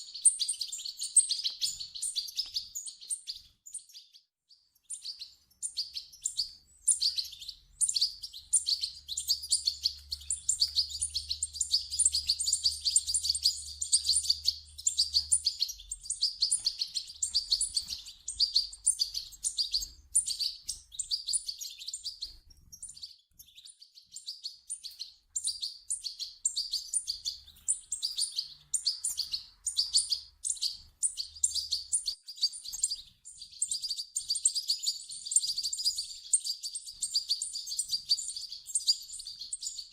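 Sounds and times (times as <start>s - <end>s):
bird chicks begging calls: 0.0s - 4.1s, 4.8s - 23.1s, 24.0s - 39.9s.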